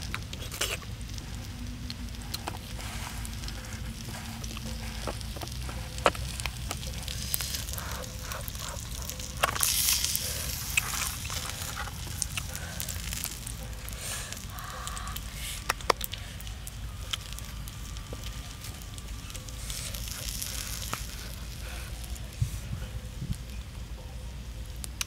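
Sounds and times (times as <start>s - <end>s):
fish sizzling in a pan: 0.0s - 22.3s
wood fire crackling and popping: 0.0s - 25.0s.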